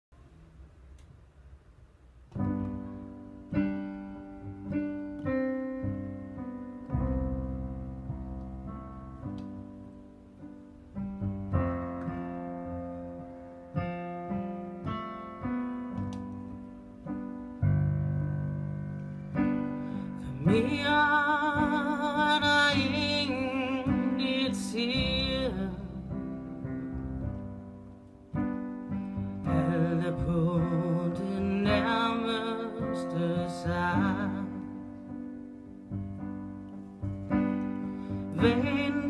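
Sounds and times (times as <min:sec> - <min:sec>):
slow piano chords: 0:00.2 - 0:39.0.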